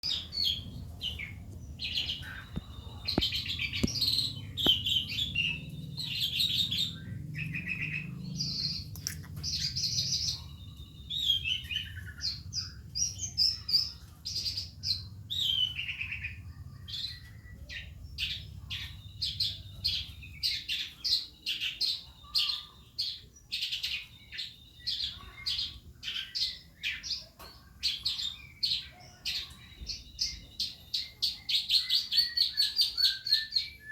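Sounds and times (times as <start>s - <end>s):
lark song chirps and warbles: 0.0s - 33.9s.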